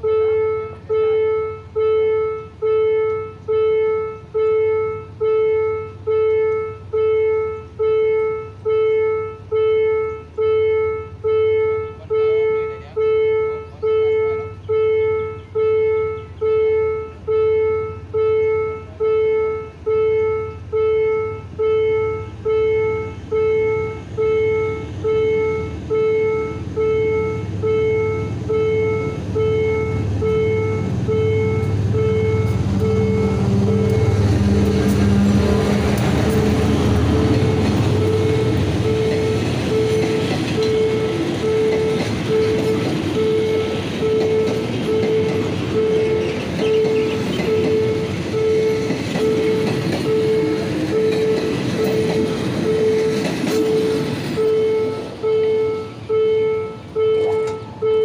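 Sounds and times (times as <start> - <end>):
approaching train rumble: 0.0 - 58.0
level-crossing warning bell: 0.0 - 58.0.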